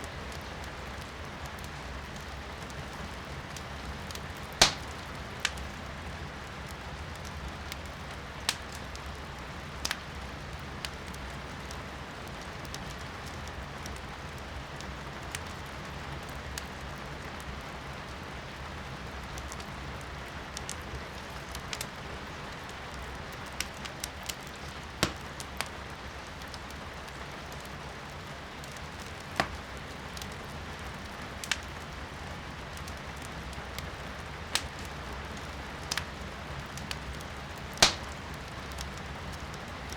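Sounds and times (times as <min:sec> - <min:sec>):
firewood crackling in fireplace: 0:00.0 - 0:39.9
rain hissing heard from indoors: 0:00.0 - 0:39.9.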